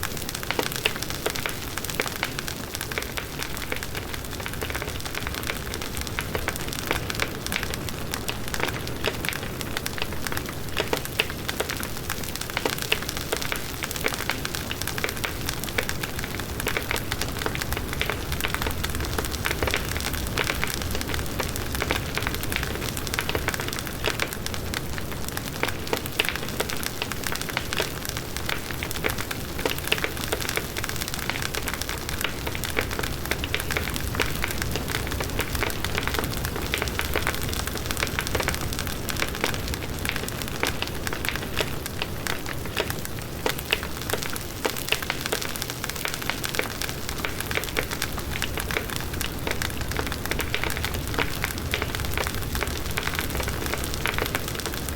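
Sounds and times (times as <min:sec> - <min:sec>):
wood crackling and popping: 0:00.0 - 0:54.9.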